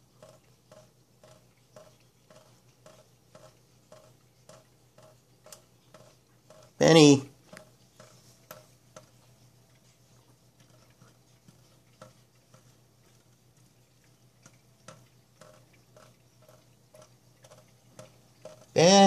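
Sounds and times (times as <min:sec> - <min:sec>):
water drops ticking on steel sink: 0:00.0 - 0:09.9, 0:10.6 - 0:19.0.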